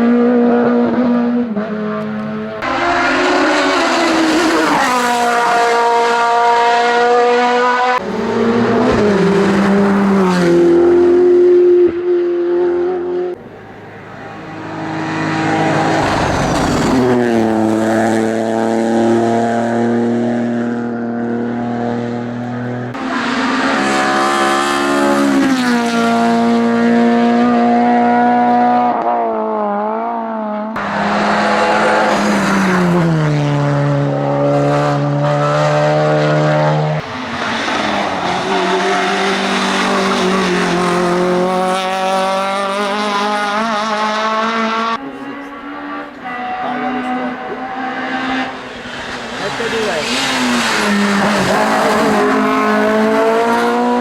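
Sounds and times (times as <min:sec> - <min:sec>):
race car engines at high revs: 0:00.0 - 0:54.0.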